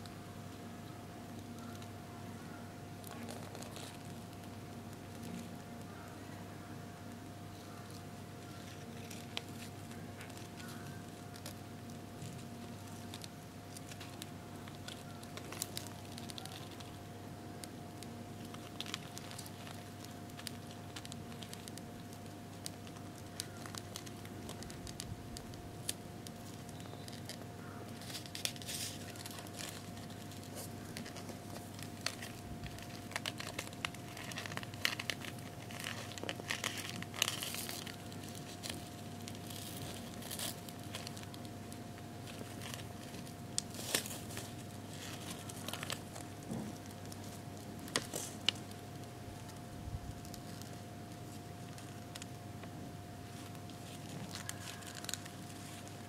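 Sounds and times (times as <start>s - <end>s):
beetles scratchy crinkles and clicks: 0.0s - 56.0s
steady low hum: 0.0s - 56.0s.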